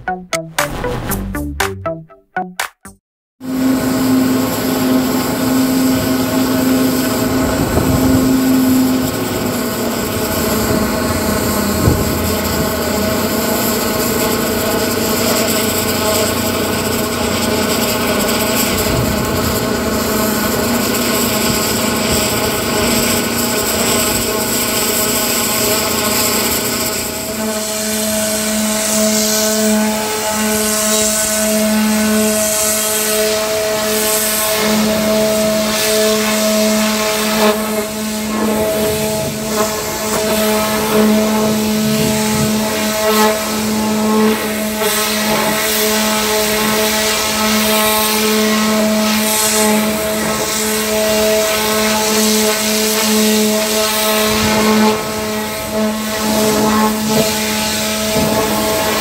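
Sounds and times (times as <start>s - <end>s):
pump engine hum: 3.4s - 59.0s
water jet hissing and spraying: 4.3s - 59.0s.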